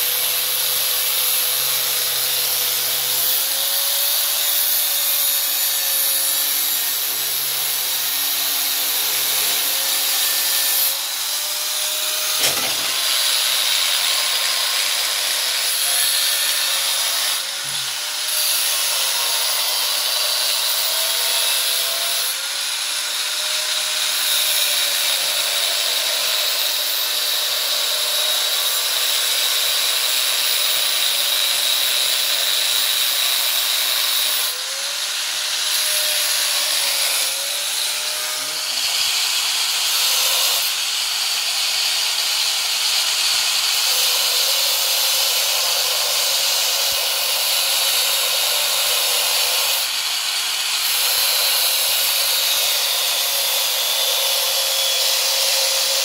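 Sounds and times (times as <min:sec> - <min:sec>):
angle grinder cutting metal: 0:00.0 - 0:56.0.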